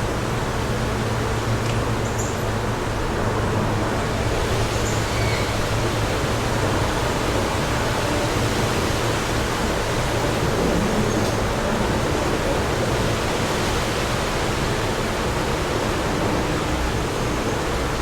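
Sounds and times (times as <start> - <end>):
wind with low rumble: 0.0 - 18.0.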